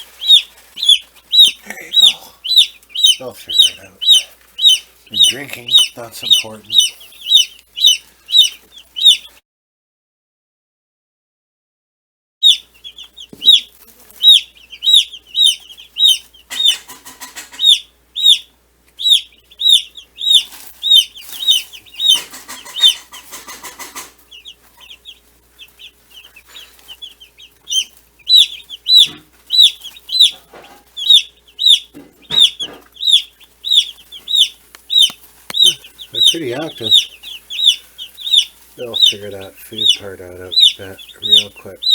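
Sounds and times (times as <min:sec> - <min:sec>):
rustling: 0:00.0 - 0:08.8, 0:12.8 - 0:17.6, 0:19.3 - 0:41.9
chicks peeping: 0:00.0 - 0:09.4, 0:12.4 - 0:41.9.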